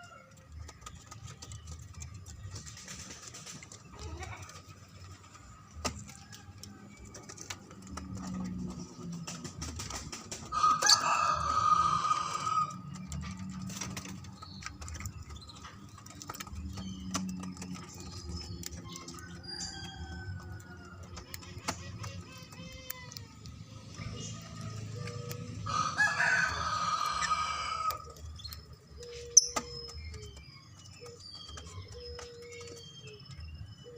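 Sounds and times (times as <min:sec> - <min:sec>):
scattered ticks: 0:00.0 - 0:33.7.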